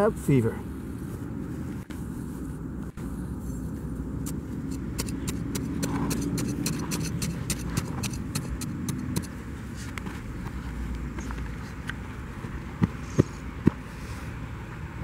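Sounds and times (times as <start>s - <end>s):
dry grass and soil crunching: 0.7s - 14.0s.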